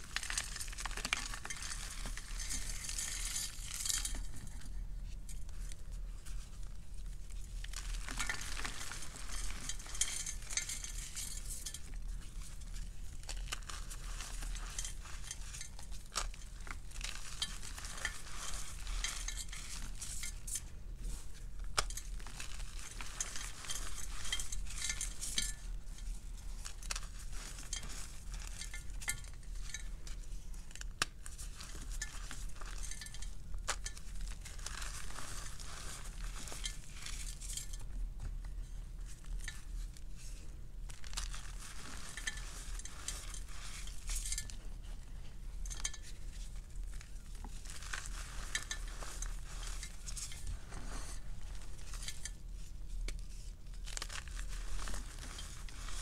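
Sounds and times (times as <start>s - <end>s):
chalk crunching and crumbling: 0.0s - 4.7s, 5.6s - 56.0s.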